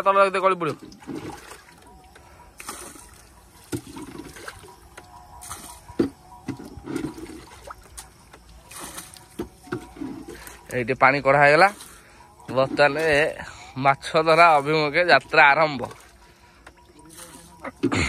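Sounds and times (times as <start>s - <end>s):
water splashing and pouring: 0.0s - 18.0s.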